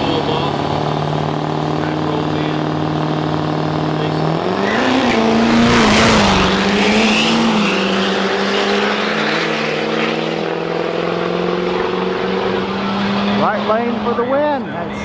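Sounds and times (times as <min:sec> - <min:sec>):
drag trucks racing: 0:00.0 - 0:15.0
engine drone: 0:00.0 - 0:15.0.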